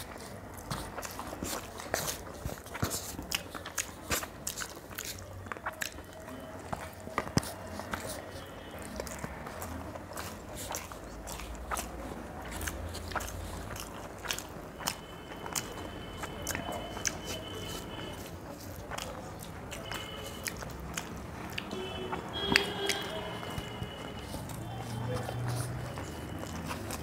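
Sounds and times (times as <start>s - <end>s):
people chewing food: 0.0s - 27.0s
wet mouth clicks and smacks: 0.0s - 27.0s.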